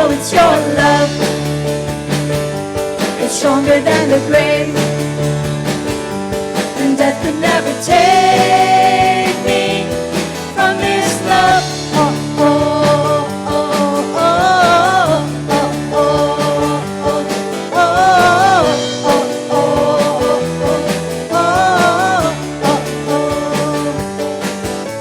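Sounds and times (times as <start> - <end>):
worship band music: 0.0 - 25.0.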